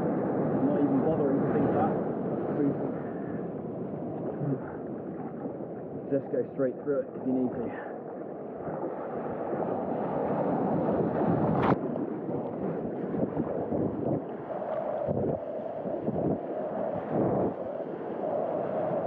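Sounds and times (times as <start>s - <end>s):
surf water rushing and splashing: 0.0s - 19.0s
wind buffeting microphone: 0.0s - 19.0s.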